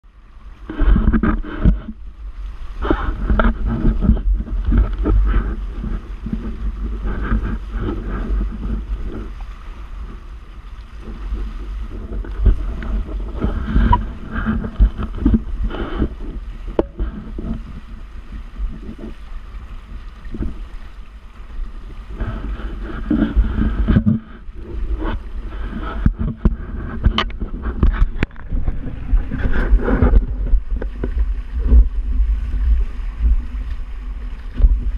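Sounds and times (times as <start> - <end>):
water splashing along hulls: 0.0 - 34.9
wind buffeting microphone: 0.4 - 34.9.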